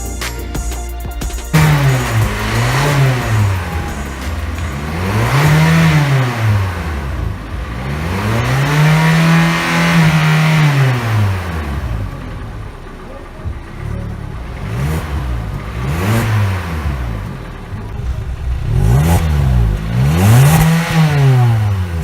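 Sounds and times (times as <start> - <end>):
car engine revving: 1.2 - 22.0.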